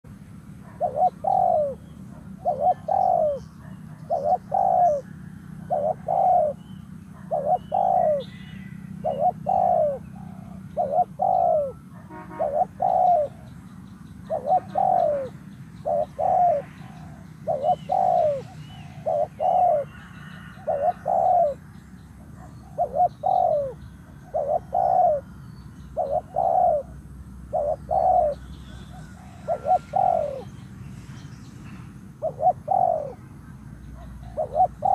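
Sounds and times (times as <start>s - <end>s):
small birds chirping: 0.5s - 34.9s
dove cooing: 0.6s - 30.5s, 32.2s - 33.2s, 33.9s - 34.9s.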